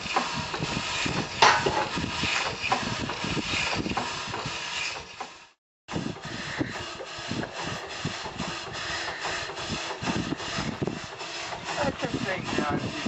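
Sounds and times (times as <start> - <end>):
steam engine chuffing: 0.0 - 13.0.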